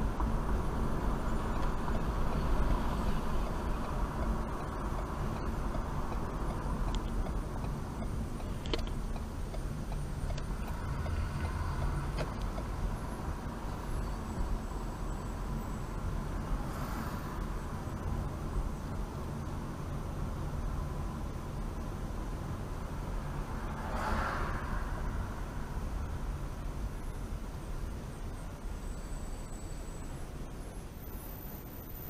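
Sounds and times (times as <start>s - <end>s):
car engine rumble: 0.0s - 32.0s
tyre road noise: 0.0s - 32.0s.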